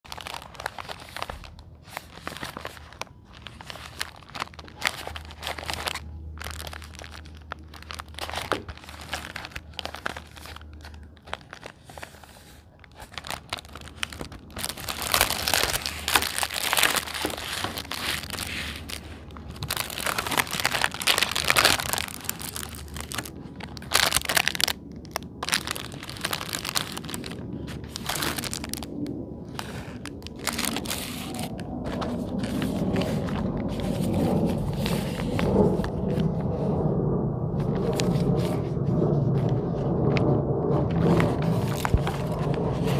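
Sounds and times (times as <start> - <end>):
plastic packaging crinkling: 0.0 - 36.5, 37.6 - 38.7, 40.8 - 42.9.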